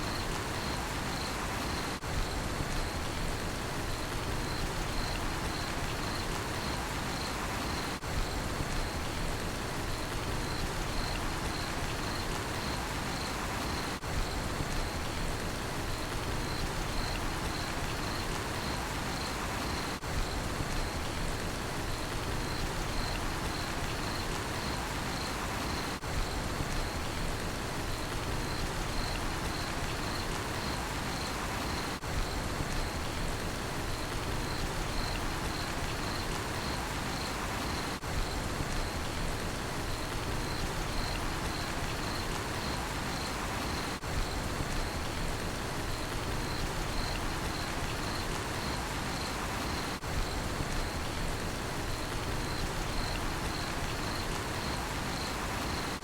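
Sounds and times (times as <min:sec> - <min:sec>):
cricket chirping: 0:00.0 - 0:03.2, 0:03.8 - 0:09.2, 0:09.9 - 0:15.2, 0:15.9 - 0:21.2, 0:21.8 - 0:27.2, 0:27.8 - 0:33.2, 0:33.8 - 0:56.0
steady rain falling: 0:00.0 - 0:56.0.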